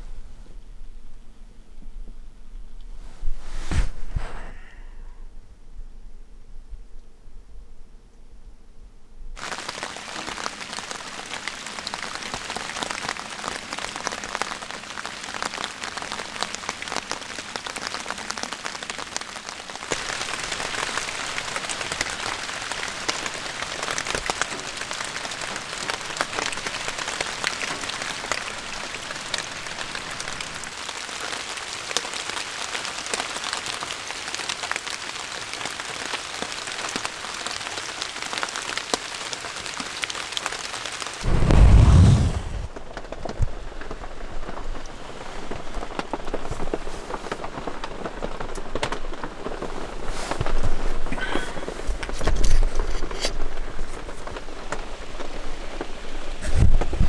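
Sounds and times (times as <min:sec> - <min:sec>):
rain falling on leaves: 0:09.4 - 0:57.0.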